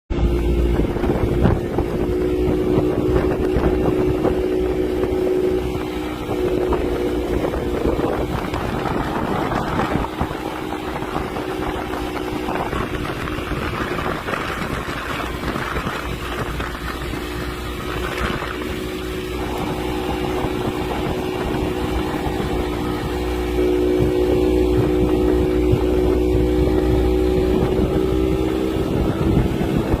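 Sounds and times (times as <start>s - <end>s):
speedboat engine running: 0.1s - 30.0s
wind buffeting microphone: 0.1s - 30.0s.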